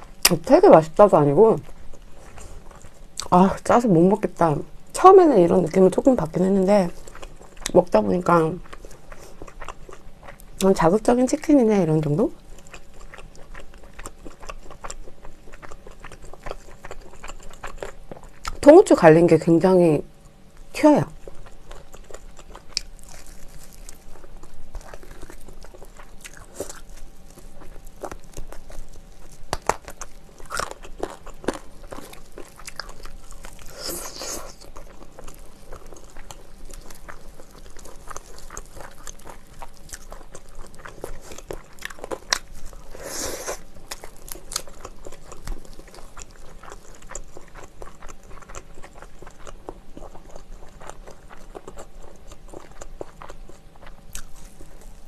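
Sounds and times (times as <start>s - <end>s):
biting and chewing fried chicken: 0.0s - 18.8s, 20.1s - 55.0s.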